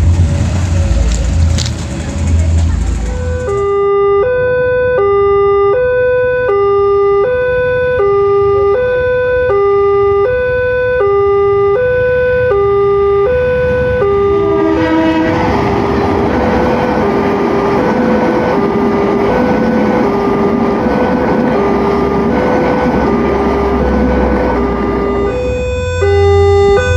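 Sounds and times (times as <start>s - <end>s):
passing train rumble: 0.0s - 26.9s
level crossing two-tone alarm: 3.1s - 15.2s, 16.2s - 26.9s.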